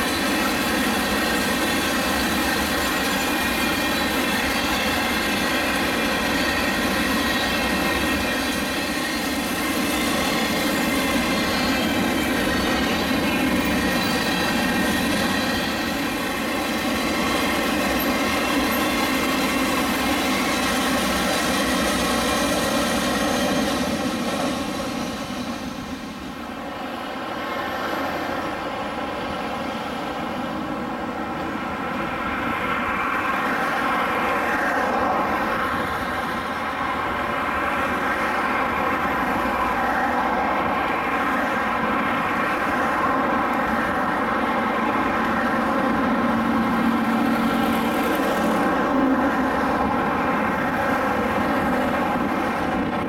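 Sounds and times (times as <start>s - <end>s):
distant diesel locomotive drone: 0.0s - 53.0s
freight train wheels on rails: 0.0s - 53.0s.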